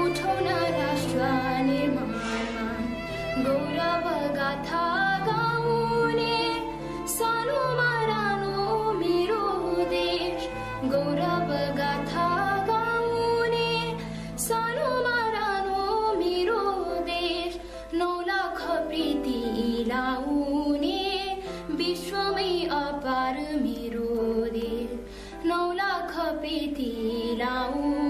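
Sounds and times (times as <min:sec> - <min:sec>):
girl singing: 0:00.0 - 0:28.0.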